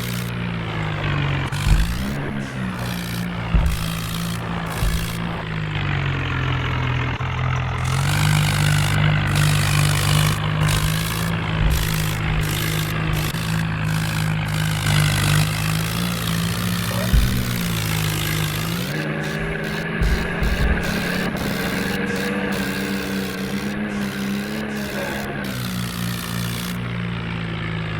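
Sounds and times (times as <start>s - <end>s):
low thumps: 0.0s - 5.6s, 7.8s - 27.1s
tractor diesel engine running: 0.0s - 27.9s.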